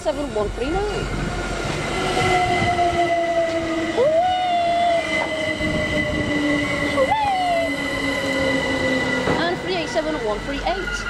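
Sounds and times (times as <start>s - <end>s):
train motors whining: 0.0s - 11.0s
train wheel squeals: 0.7s - 11.0s.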